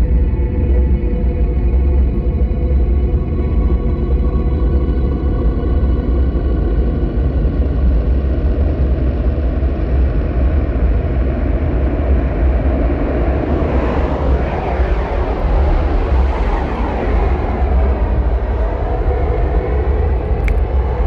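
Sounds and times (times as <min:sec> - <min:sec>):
deep rumbling bass clarinet drone: 0:00.0 - 0:21.0.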